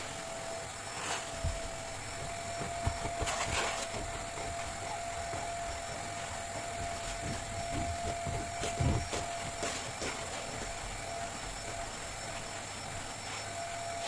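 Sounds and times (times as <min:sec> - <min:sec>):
vacuum cleaner running: 0:00.0 - 0:14.0
light knocks and bumps: 0:01.3 - 0:12.6.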